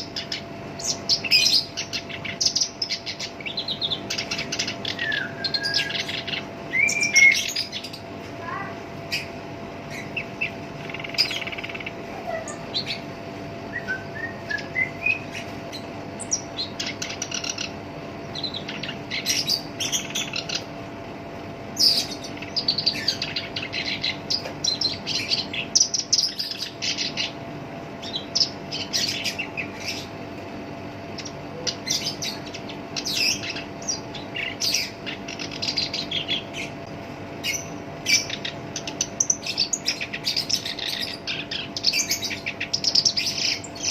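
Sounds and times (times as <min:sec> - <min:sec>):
warbler singing: 0:00.0 - 0:43.9.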